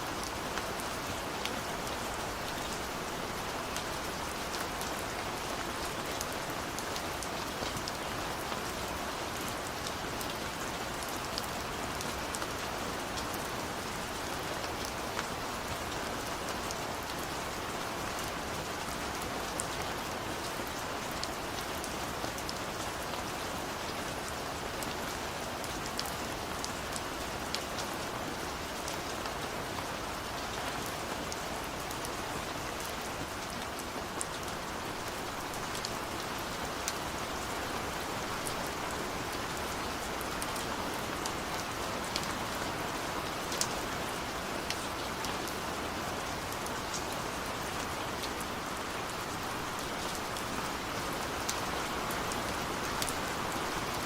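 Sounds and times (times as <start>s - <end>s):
rain ticking on a window: 0.0s - 54.0s.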